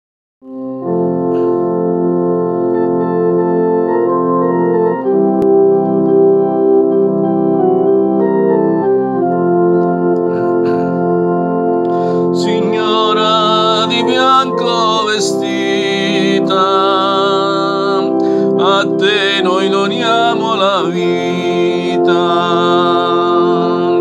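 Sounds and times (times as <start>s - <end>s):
organ keyboard playing held chords: 0.4s - 24.0s.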